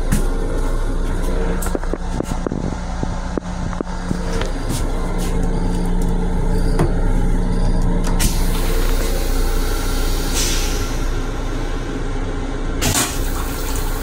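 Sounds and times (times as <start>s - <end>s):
railcar rumble and hum: 0.0s - 14.0s.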